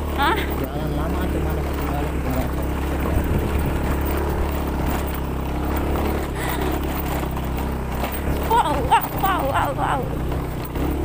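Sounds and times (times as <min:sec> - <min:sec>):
road rumble: 0:00.0 - 0:11.0
vehicle engine humming: 0:00.0 - 0:11.0.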